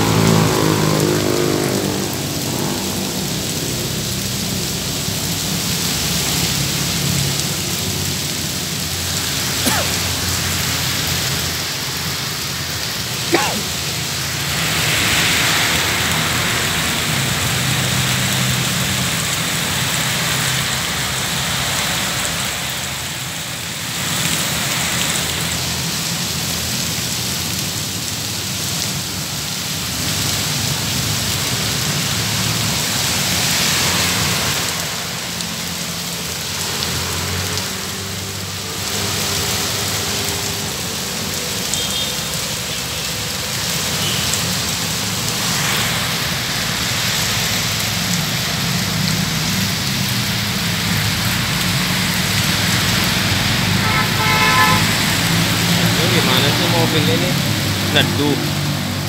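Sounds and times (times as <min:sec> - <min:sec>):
cars passing on wet road: 0:00.0 - 0:59.0
heavy rain on road: 0:00.0 - 0:59.0.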